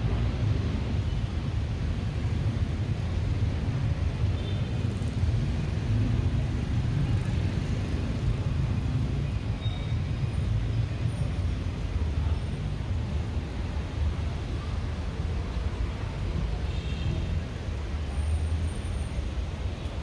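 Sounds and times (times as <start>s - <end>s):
busy street traffic: 0.0s - 20.0s.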